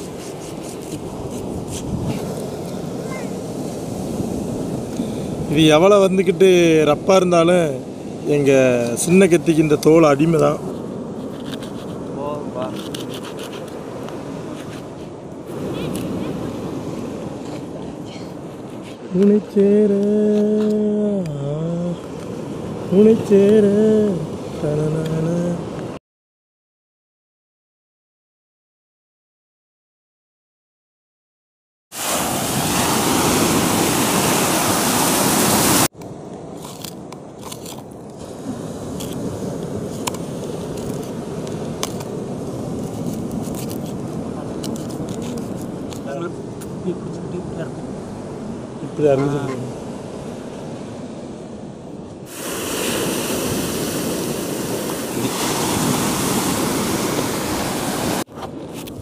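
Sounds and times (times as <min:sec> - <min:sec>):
waves breaking: 0:00.0 - 0:26.0, 0:31.9 - 0:59.0.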